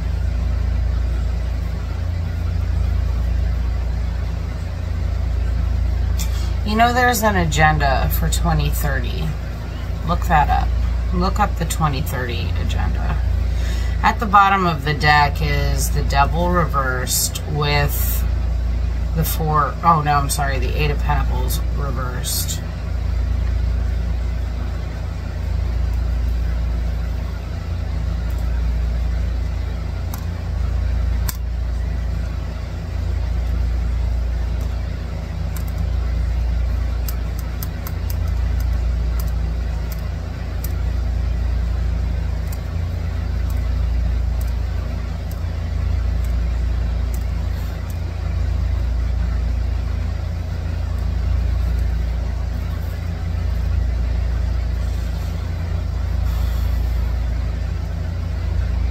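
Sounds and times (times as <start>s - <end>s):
loud low rumbling hum: 0.0s - 58.9s.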